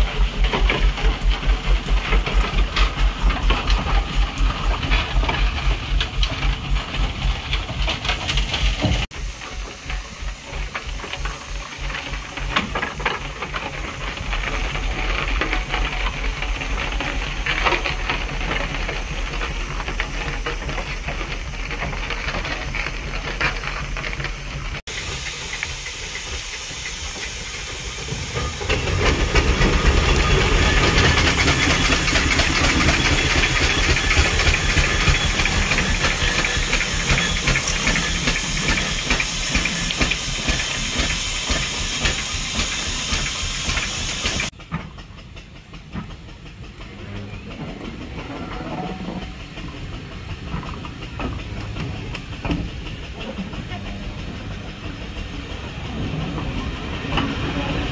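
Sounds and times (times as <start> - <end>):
steam engine hissing: 0.0 - 57.9.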